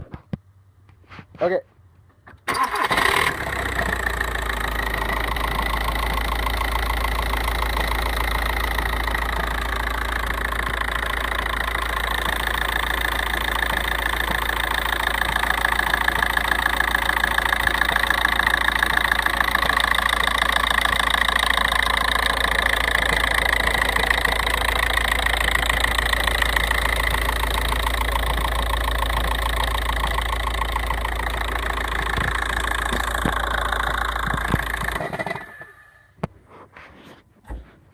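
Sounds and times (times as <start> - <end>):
diesel engine idling: 2.5 - 36.0.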